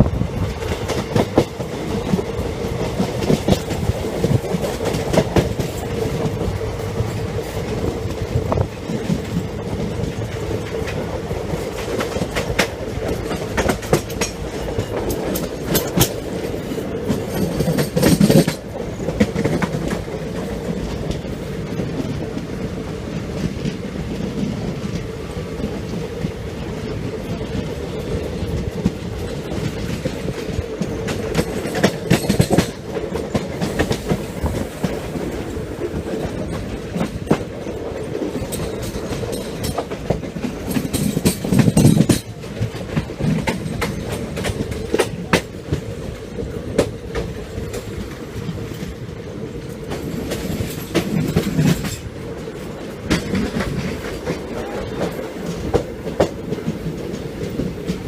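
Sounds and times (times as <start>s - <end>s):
train rumble and hum: 0.0s - 58.0s
wheels clattering over rail joints: 0.4s - 22.5s, 23.1s - 58.0s.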